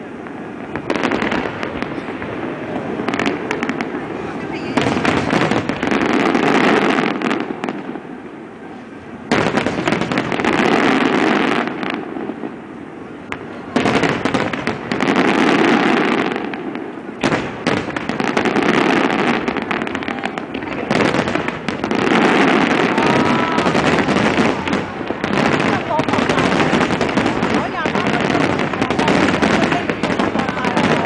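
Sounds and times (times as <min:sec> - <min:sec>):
fireworks bursting with bangs: 0:00.0 - 0:31.0.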